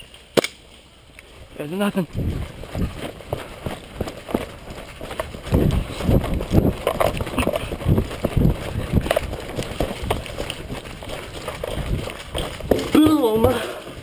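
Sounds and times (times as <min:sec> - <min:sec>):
running footsteps on dirt trail: 0:01.0 - 0:14.0.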